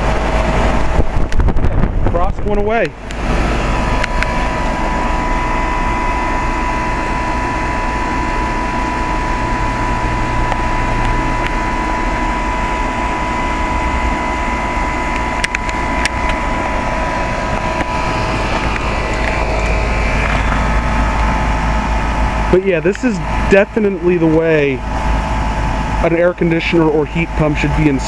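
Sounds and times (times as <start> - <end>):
heat pump humming and whining: 0.0 - 28.0.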